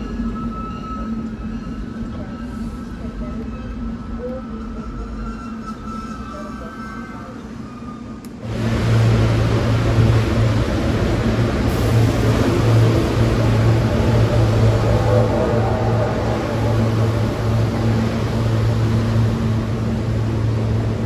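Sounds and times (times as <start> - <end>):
train rumbling through station: 0.0 - 21.0.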